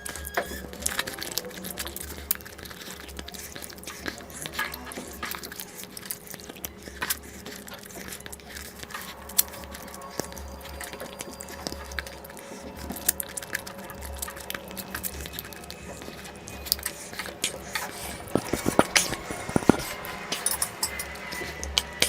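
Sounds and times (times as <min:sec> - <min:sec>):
chewing and biting: 0:00.0 - 0:22.0
wet mouth clicks: 0:01.3 - 0:20.0.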